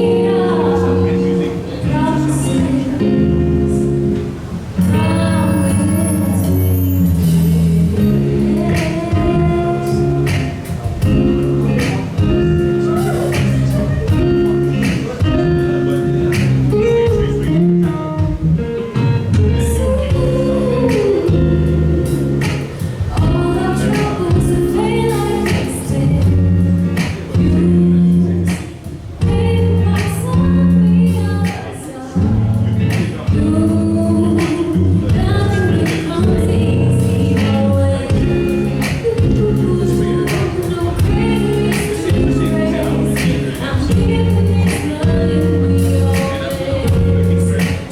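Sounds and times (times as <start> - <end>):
person singing: 0.0 - 4.1, 4.8 - 17.7, 18.8 - 47.9
guitar: 0.0 - 47.9
steady beat: 7.2 - 33.8, 34.4 - 47.9.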